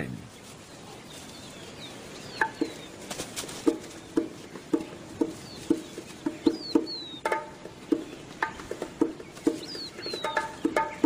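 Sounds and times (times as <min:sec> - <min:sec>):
high falling bird chirps: 0:00.3 - 0:11.0
low clucking calls: 0:00.8 - 0:11.0.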